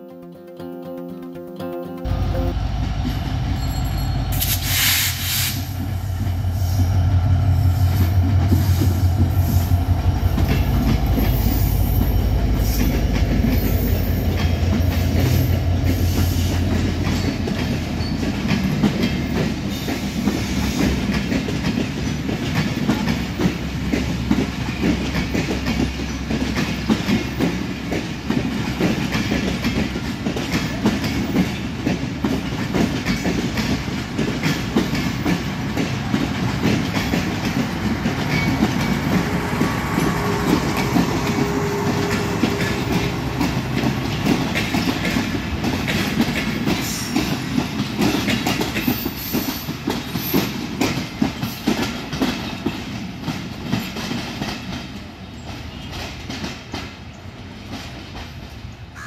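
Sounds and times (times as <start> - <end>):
diesel locomotive engine droning: 2.0 - 56.4
train wheels clattering over rail joints: 3.0 - 58.7.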